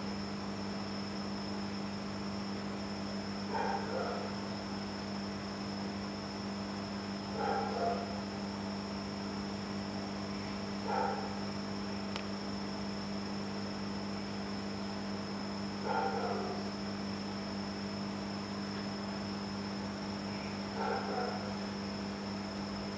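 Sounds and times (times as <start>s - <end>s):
electrical hum: 0.0s - 22.9s.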